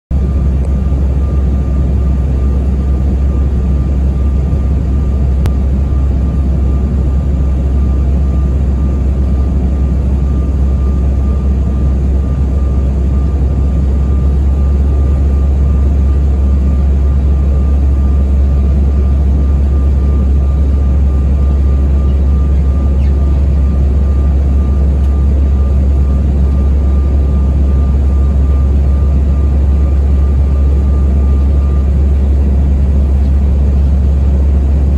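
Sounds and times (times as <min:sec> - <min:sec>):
airliner engines and airflow rumble: 0:00.1 - 0:34.9
thin steady whine: 0:00.2 - 0:34.9.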